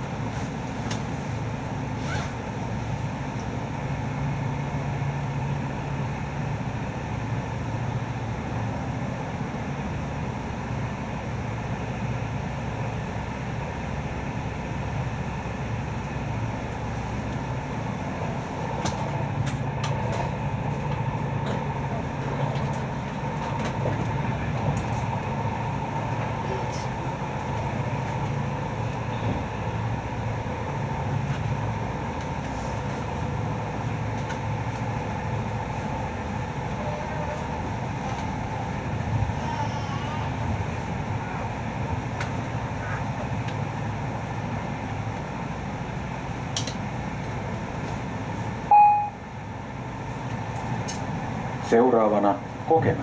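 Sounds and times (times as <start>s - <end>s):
train wheels rumbling on rails: 0.0s - 48.7s.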